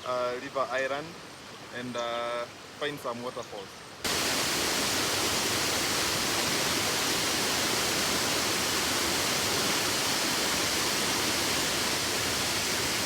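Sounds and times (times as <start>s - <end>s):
river water over waterfalls: 0.1s - 13.0s.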